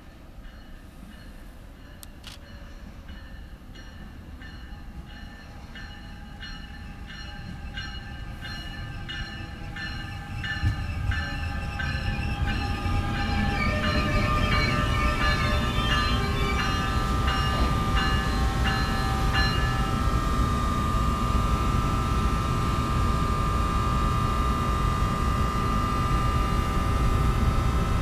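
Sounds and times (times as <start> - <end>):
train pulling into station: 0.0 - 28.0.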